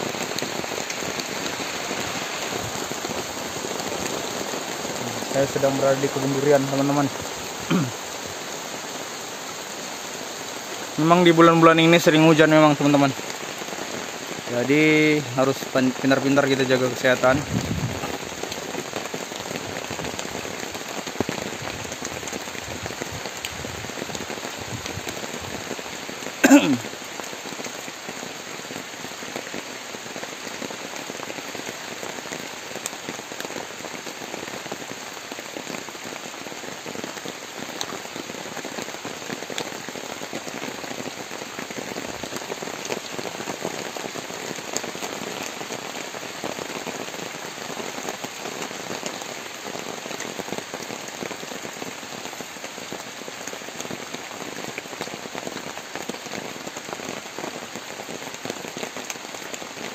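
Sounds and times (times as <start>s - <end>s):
heavy rain on tarpaulin: 0.0s - 59.9s.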